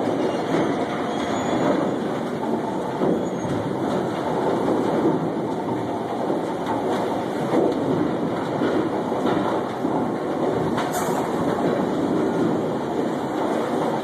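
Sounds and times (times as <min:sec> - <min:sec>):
crane machinery noise: 0:00.0 - 0:14.0.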